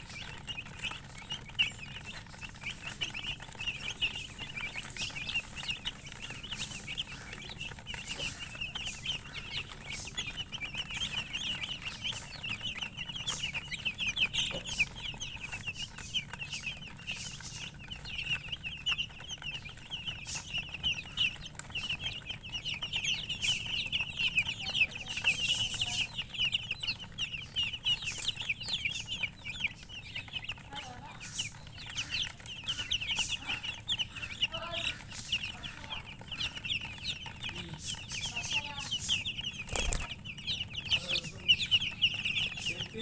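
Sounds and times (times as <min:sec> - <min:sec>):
chicks peeping: 0:00.0 - 0:43.0
hen clucking: 0:00.0 - 0:43.0.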